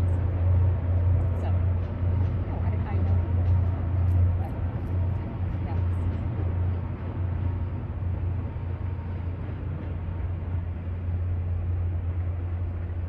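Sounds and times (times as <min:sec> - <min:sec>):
diesel train approaching: 0:00.0 - 0:13.0.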